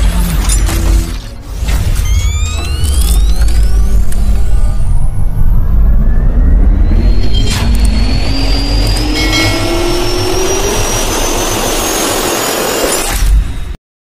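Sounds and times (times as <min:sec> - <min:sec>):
heavy low rumble: 0:01.0 - 0:13.6
jet engine whine rising: 0:01.6 - 0:13.8.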